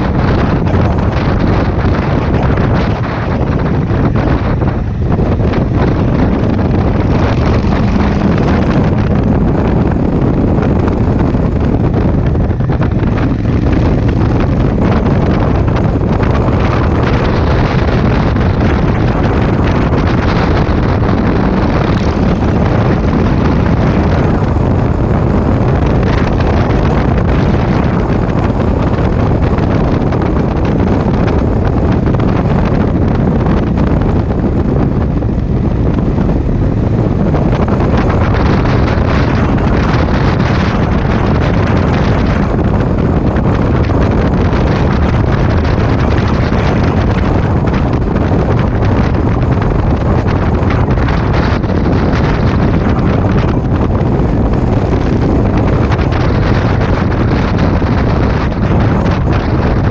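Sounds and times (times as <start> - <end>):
motorcycle running: 0.0 - 59.9
wind buffeting microphone: 0.0 - 59.9.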